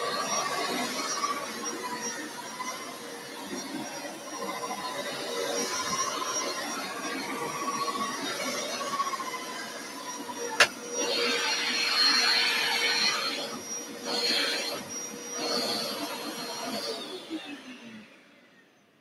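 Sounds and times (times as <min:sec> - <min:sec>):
carpet cleaner running: 0:00.0 - 0:19.0.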